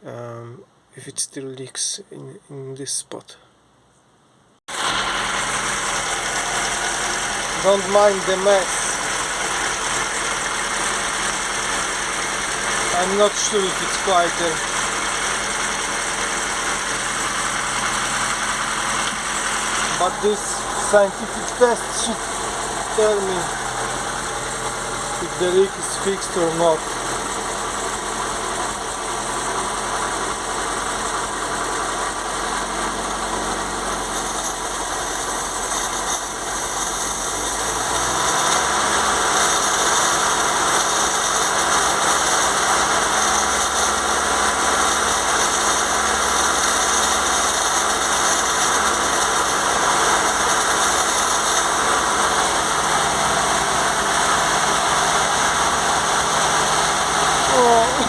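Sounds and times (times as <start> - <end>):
car engine idling and revving: 4.7 - 58.0.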